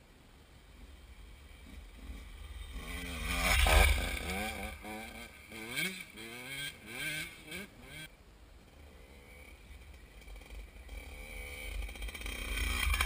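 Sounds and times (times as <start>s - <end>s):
dirt bike engine revving: 1.5s - 8.1s, 8.7s - 13.0s.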